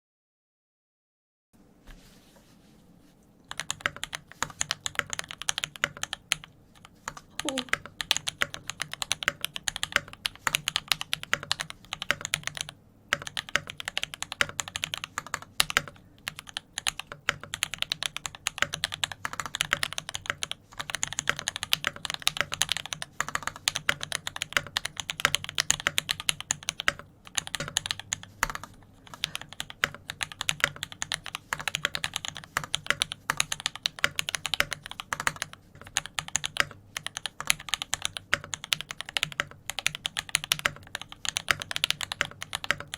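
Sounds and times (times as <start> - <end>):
fast typing on mechanical keyboard: 3.5 - 42.9.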